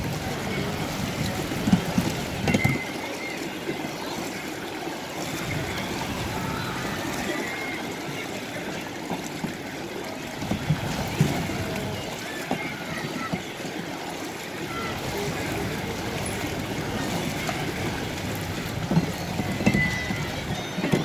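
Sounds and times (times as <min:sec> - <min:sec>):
boats bumping: 0:00.0 - 0:21.0
water churning and sloshing: 0:00.0 - 0:21.0.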